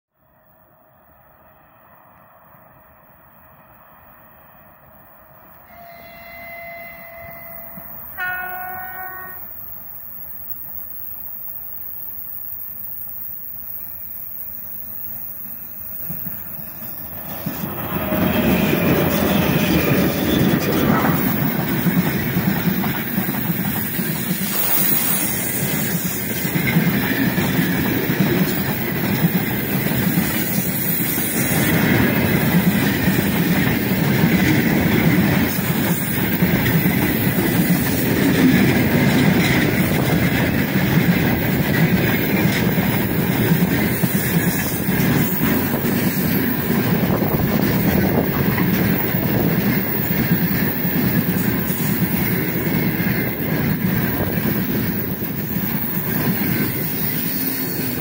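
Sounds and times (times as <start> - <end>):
freight train wheels rumbling: 1.1 - 58.0.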